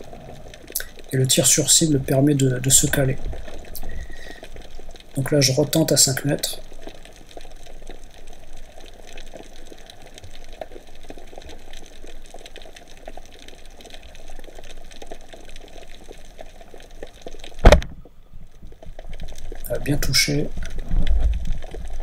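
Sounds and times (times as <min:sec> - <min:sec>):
faint hiss: 0:00.0 - 0:18.8
crackle of small clicks: 0:00.0 - 0:22.0.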